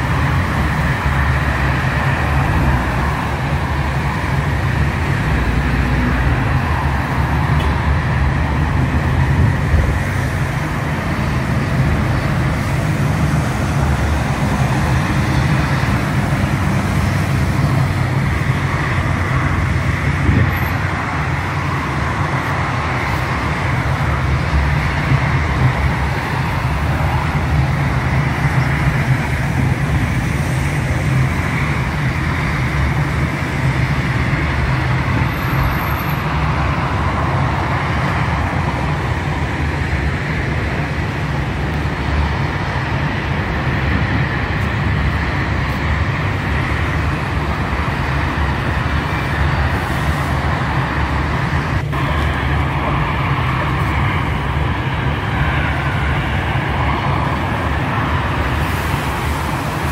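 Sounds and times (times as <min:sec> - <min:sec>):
low engine hum: 0:00.0 - 0:59.9
rushing road noise: 0:00.0 - 0:59.9.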